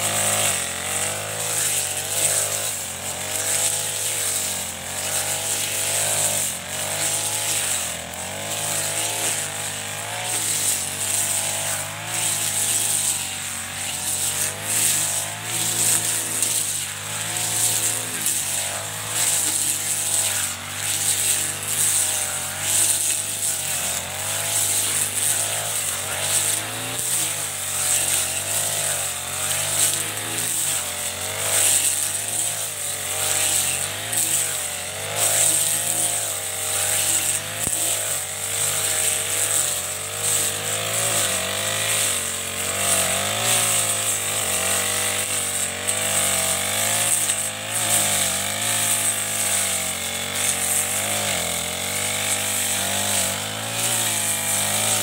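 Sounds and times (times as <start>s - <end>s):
brush cutter engine: 0.0s - 55.0s
cutting head hissing through grass: 0.0s - 55.0s.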